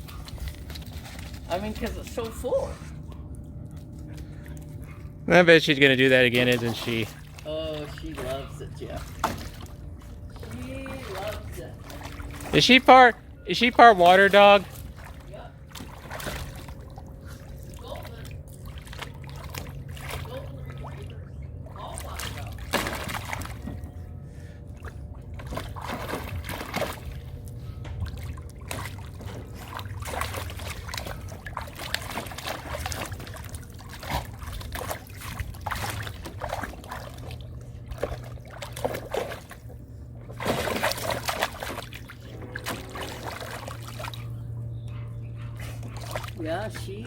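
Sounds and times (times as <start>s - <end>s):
water splashing and sloshing: 0.0s - 47.0s.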